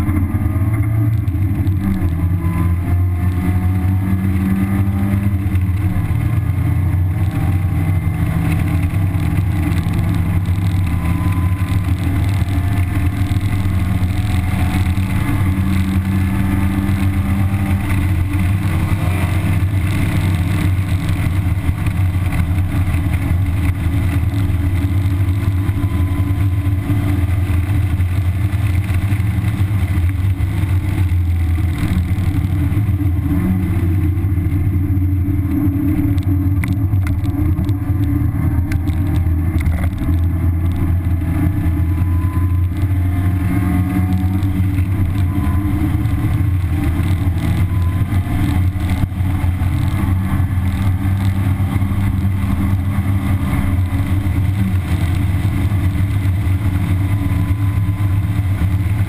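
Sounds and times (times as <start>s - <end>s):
car engine revving: 0.0s - 59.0s
car rattles over bumps: 0.0s - 59.0s
wind noise: 0.0s - 59.0s.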